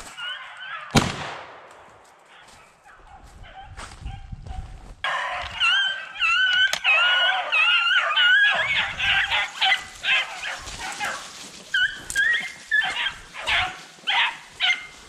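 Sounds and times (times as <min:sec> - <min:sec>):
dogs barking and baying: 0:00.0 - 0:00.9, 0:02.2 - 0:15.0
dogs yelping: 0:00.0 - 0:00.9, 0:02.3 - 0:15.0.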